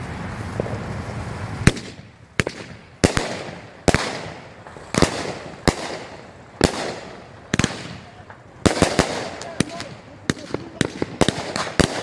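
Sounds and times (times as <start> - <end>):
firework hiss: 0.0 - 12.0
firework reports: 0.0 - 12.0.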